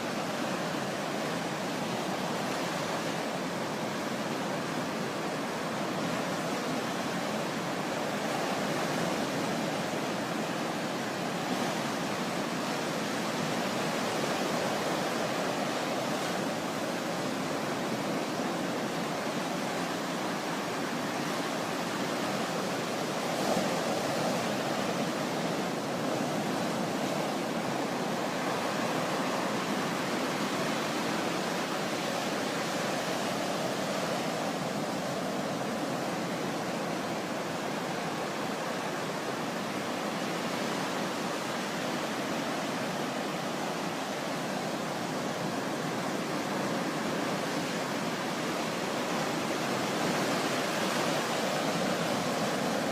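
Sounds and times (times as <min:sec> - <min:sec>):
sea surf rushing: 0:00.0 - 0:52.9.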